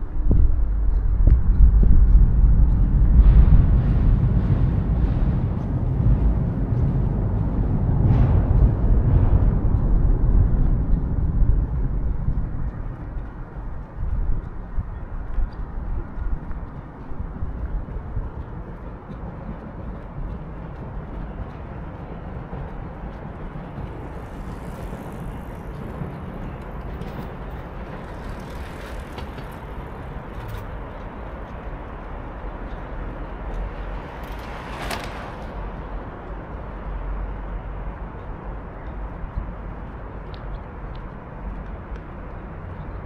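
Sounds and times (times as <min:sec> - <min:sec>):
distant traffic rumble: 0:00.0 - 0:43.0.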